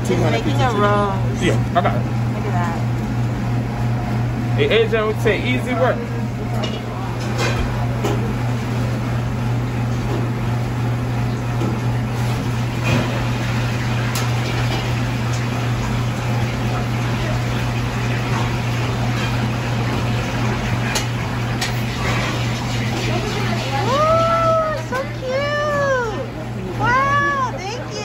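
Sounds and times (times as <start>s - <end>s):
kitchen machinery humming: 0.0s - 28.0s.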